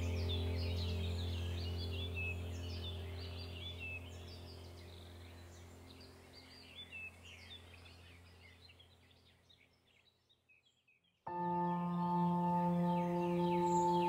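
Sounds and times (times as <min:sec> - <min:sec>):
low steady hum: 0:00.0 - 0:09.4, 0:11.3 - 0:14.0
birds chirping: 0:00.0 - 0:14.0.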